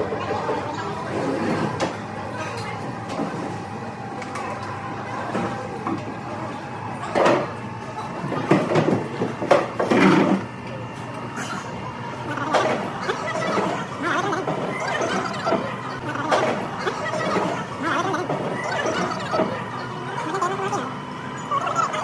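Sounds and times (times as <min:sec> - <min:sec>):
distant diners: 0:00.0 - 0:22.0
room hum: 0:00.0 - 0:22.0.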